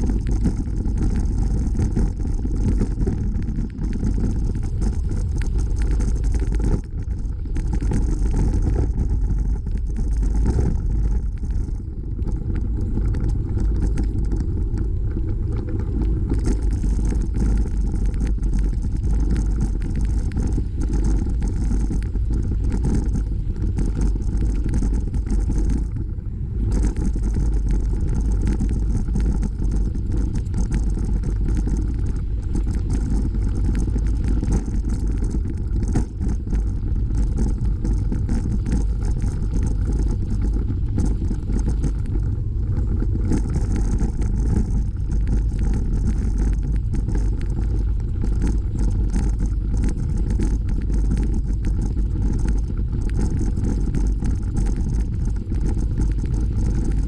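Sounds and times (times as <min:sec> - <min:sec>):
bicycle tyres rolling on gravel: 0:00.0 - 0:57.0
wind rumbling on microphone: 0:00.0 - 0:57.0.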